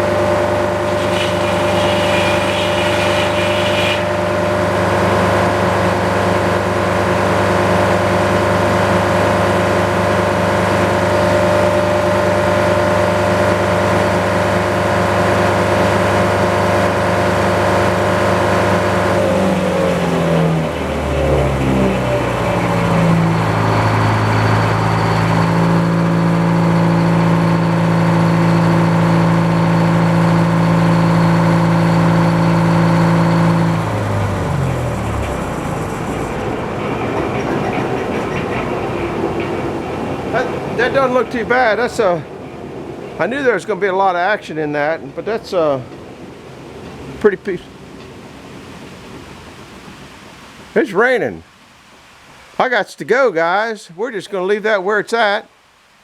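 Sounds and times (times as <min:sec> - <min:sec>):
diesel engine running: 0:00.0 - 0:50.6.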